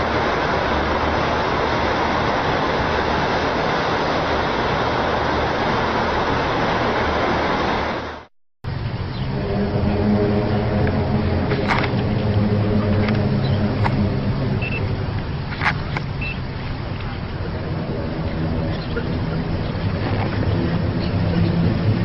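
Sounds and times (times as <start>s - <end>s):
loud rushing noise: 0.0s - 22.0s
low droning hum: 0.0s - 22.0s.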